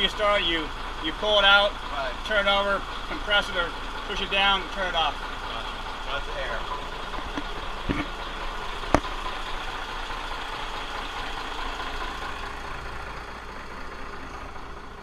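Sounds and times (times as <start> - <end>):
boat engines idling: 0.0 - 15.0.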